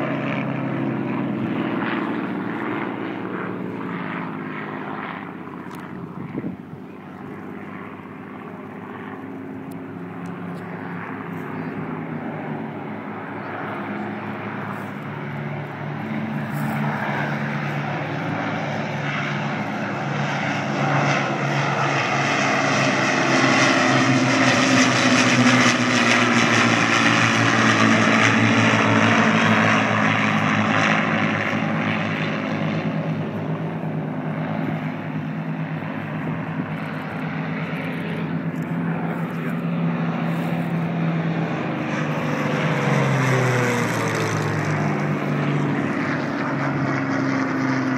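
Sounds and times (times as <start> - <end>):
propeller aircraft taking off: 0.0 - 47.9.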